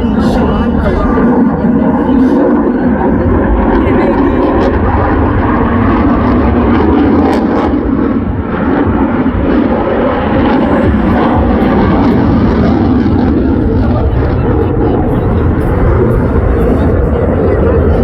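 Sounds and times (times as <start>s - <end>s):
fighter jet engine roar: 0.0s - 18.0s.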